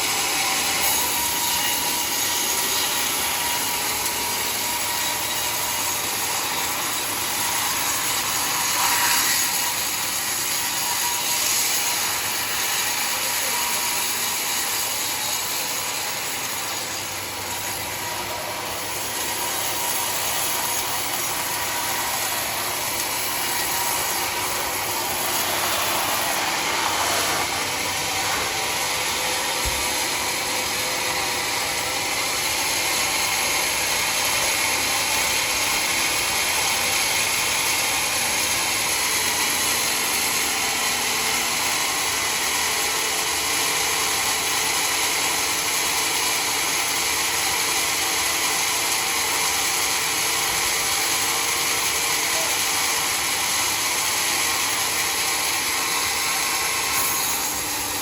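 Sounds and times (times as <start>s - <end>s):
saw blade cutting wood: 0.0s - 58.0s.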